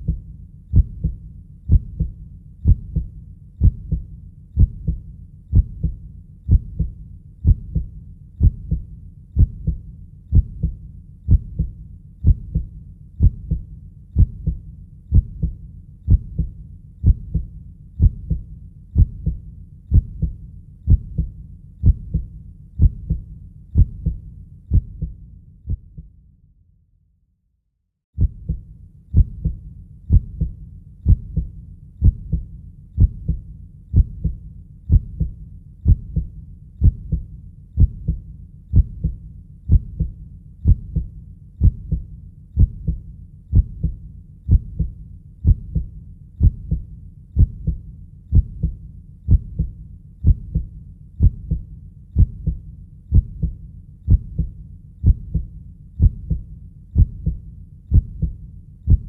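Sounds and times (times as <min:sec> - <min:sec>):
heartbeat thumps: 0:00.0 - 0:26.1, 0:28.2 - 0:59.0.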